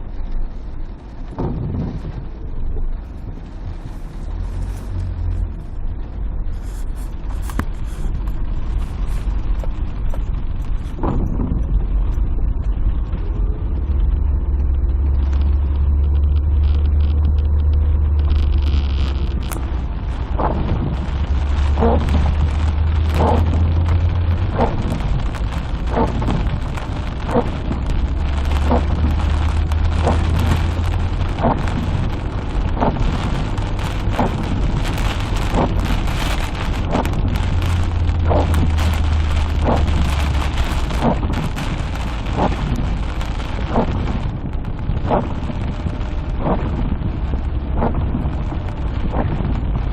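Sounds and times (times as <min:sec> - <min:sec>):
heavy rain hissing: 0:00.0 - 0:49.9
thunder rumbling: 0:00.0 - 0:49.9.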